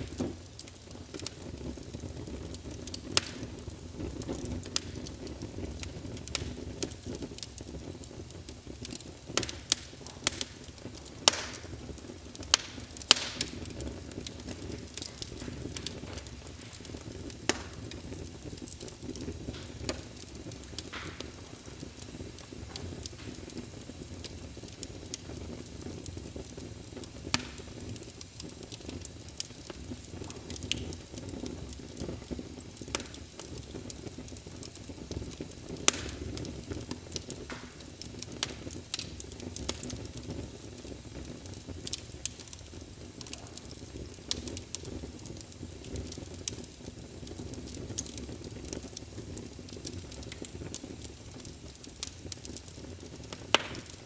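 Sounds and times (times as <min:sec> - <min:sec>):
fire crackling and popping: 0:00.0 - 0:54.0
fire rumbling and hissing: 0:00.0 - 0:54.0.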